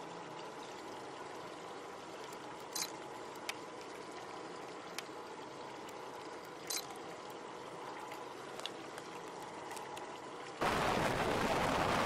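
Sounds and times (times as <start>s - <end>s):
water lapping and trickling: 0.0s - 10.7s.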